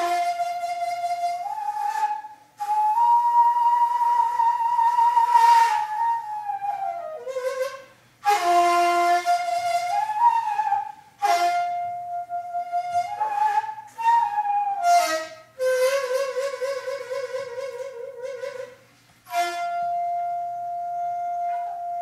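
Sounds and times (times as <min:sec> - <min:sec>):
bamboo flute melody: 0:00.0 - 0:22.0.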